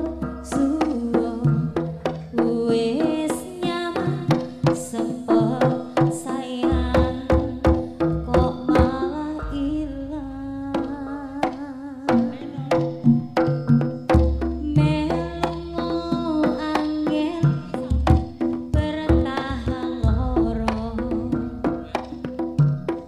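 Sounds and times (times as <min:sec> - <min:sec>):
woman singing into microphone: 0:00.0 - 0:12.7, 0:14.6 - 0:18.1, 0:18.7 - 0:22.0
gongs and metallophones: 0:00.0 - 0:23.0
hand drums beating: 0:00.0 - 0:23.0.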